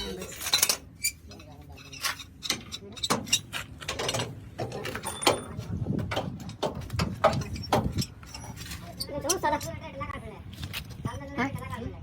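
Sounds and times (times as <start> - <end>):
metal parts knocking and clanking: 0.0 - 9.8.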